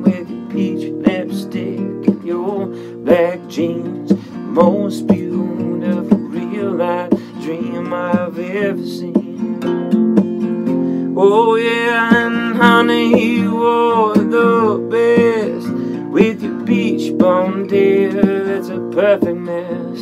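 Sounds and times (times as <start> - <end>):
man singing: 0.0 - 10.2, 11.0 - 20.0
acoustic guitar strumming: 0.0 - 20.0.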